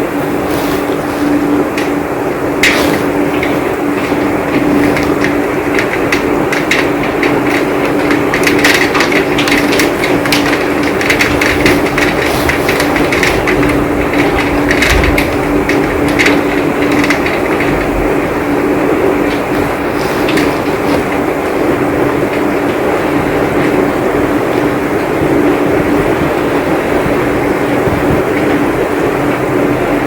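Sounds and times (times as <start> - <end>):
heavy rain falling: 0.0 - 30.0
raindrops striking close by: 0.0 - 30.0
steady low hum: 0.0 - 30.0.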